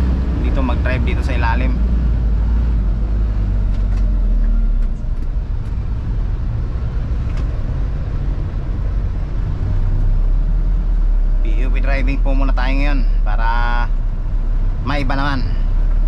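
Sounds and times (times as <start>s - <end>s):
truck diesel engine drone: 0.0s - 16.0s.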